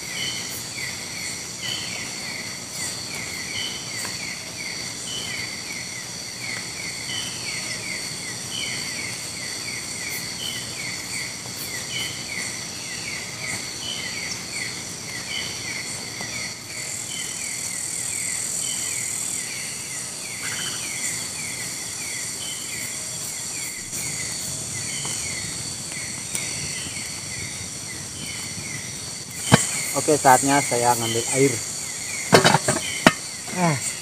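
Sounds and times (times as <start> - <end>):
insects buzzing shrilly: 0.0 - 34.0
short insect chirp: 0.0 - 34.0.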